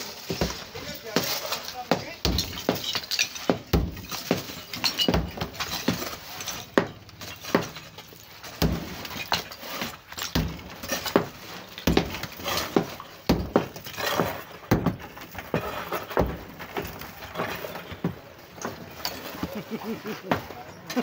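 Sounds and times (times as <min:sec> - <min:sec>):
sledgehammer striking brick wall: 0:00.0 - 0:20.6
masonry debris clattering: 0:00.0 - 0:21.0.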